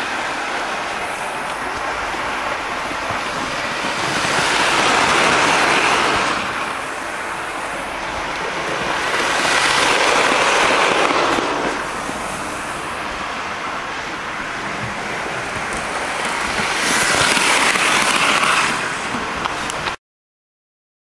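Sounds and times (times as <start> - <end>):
model train whirring on rails: 0.0 - 20.0.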